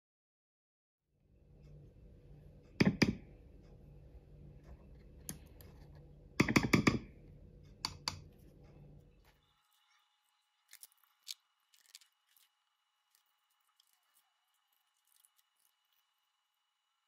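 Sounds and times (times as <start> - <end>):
low steady hum: 1.1 - 17.0.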